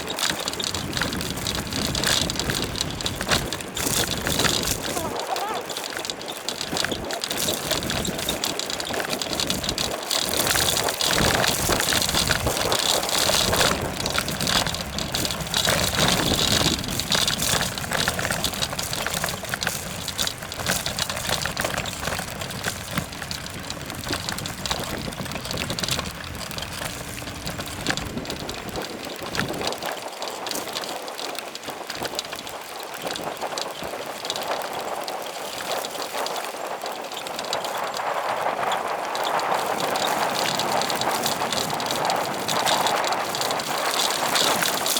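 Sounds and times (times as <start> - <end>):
bike rattles and clicks: 0.0 - 44.9
rushing sound of bicycle ride: 0.0 - 44.9.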